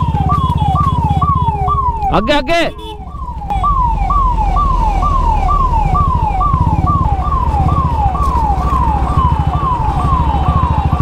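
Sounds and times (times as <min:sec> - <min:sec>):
motorcycle engine running: 0:00.0 - 0:02.2, 0:02.8 - 0:11.0
siren wailing: 0:00.0 - 0:11.0.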